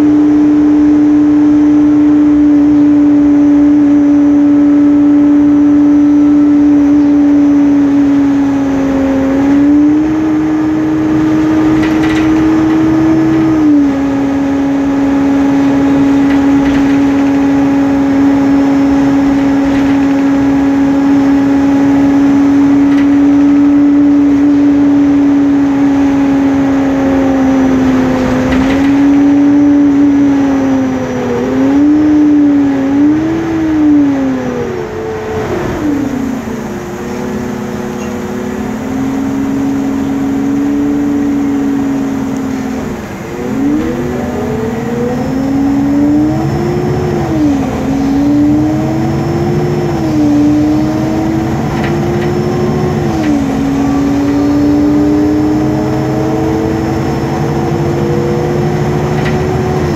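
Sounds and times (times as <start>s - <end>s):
bus cooling fan whine: 0.0s - 59.9s
bus running noise: 0.0s - 59.9s.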